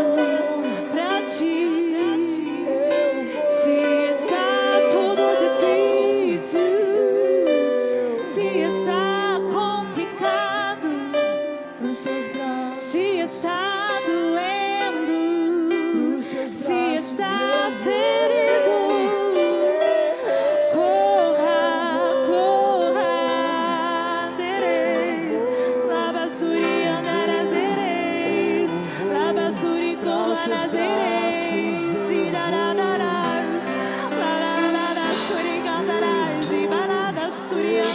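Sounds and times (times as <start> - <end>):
person singing wavering melody: 0.0 - 37.9
sustained instrumental accompaniment: 0.0 - 37.9.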